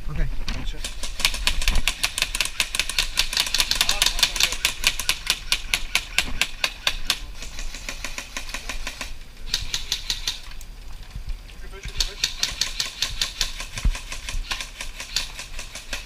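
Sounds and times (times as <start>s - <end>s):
airsoft rifles firing: 0.8s - 10.4s, 11.9s - 16.0s.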